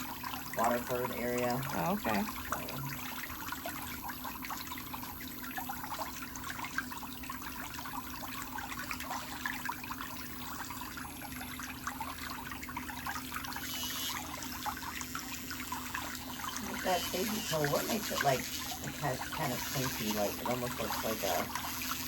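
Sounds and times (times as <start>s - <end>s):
water trickling and bubbling: 0.0s - 22.0s.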